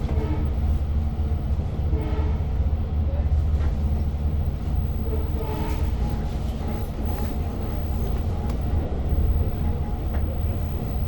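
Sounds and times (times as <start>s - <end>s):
train rumble from inside coach: 0.0s - 11.0s.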